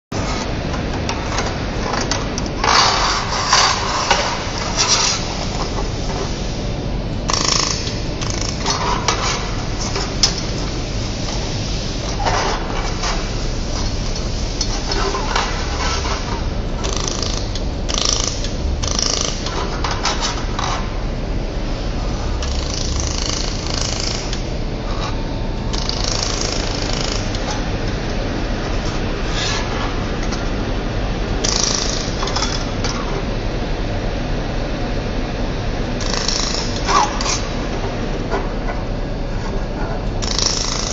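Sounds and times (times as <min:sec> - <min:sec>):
welding machine hum and whir: 0:00.0 - 0:40.9.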